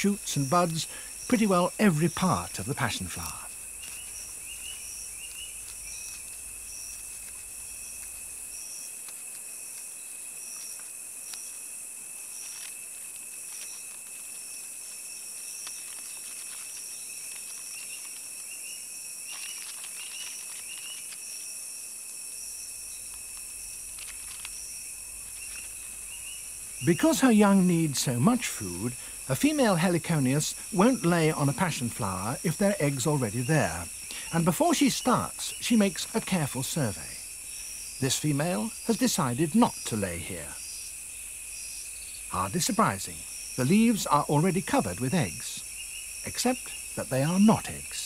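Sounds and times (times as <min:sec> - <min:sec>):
insects high continuous tone: 0:00.0 - 0:48.0
pulsing insect trill: 0:00.0 - 0:48.0.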